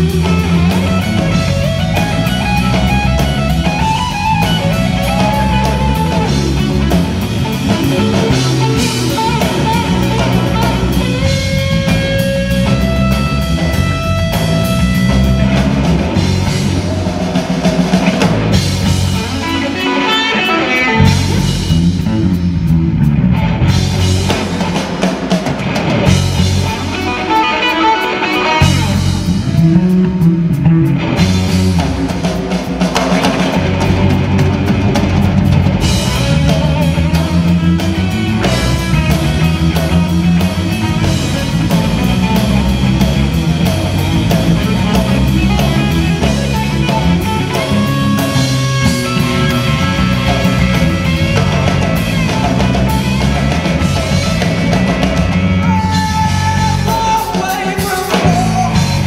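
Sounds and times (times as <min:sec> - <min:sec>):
drum kit: 0:00.0 - 0:59.0
electric bass: 0:00.0 - 0:59.0
electric guitar lead: 0:00.0 - 0:59.0.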